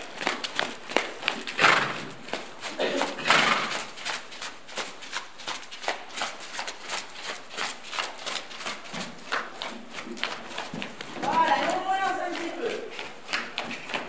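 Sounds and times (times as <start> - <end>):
horse hooves cantering on sand: 0.0 - 14.0.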